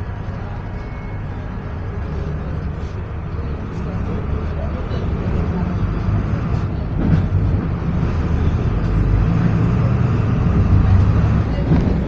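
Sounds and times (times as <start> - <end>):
bus diesel engine running: 0.0 - 12.0
road rumble: 0.0 - 12.0.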